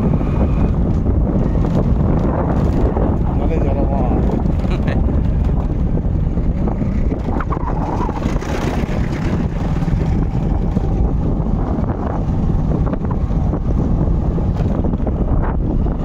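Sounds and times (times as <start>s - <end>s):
vehicle running: 0.0s - 16.0s
wind buffeting microphone: 0.0s - 16.0s.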